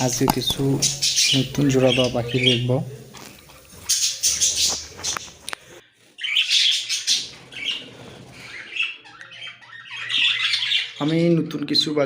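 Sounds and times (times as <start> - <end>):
budgerigars chirping: 0.0 - 3.1, 3.7 - 5.4, 6.2 - 11.2.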